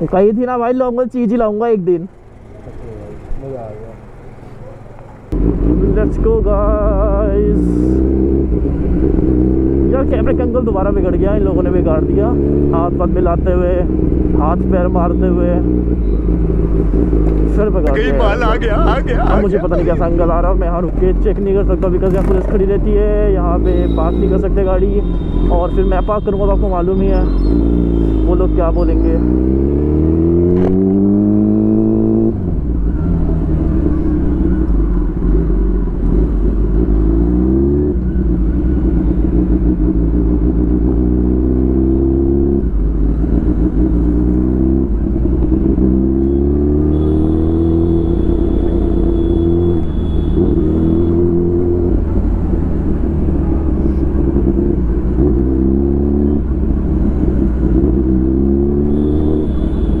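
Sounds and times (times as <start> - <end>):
motorcycle engine accelerating: 2.1 - 23.7, 28.9 - 59.6.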